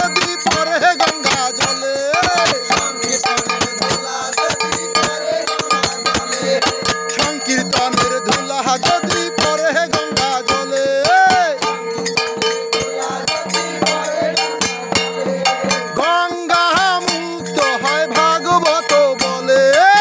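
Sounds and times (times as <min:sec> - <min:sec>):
barrel drum beat: 0:00.0 - 0:20.0
group singing: 0:00.0 - 0:20.0
hand cymbals: 0:00.0 - 0:20.0
steady held tone: 0:00.0 - 0:20.0.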